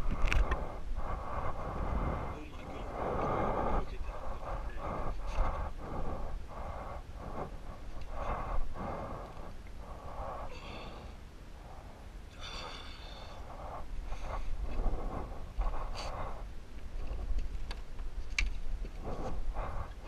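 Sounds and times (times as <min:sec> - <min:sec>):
person breathing heavily: 0:00.0 - 0:16.6, 0:19.0 - 0:20.0.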